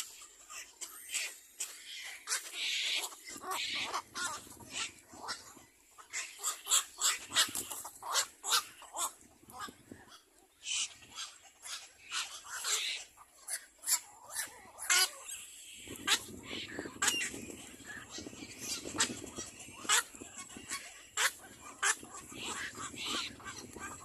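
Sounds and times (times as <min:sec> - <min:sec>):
young birds calling: 0:00.1 - 0:24.0.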